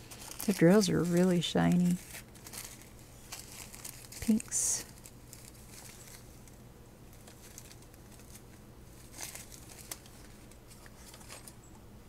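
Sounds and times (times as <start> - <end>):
plastic bags rustling: 0.0 - 11.6.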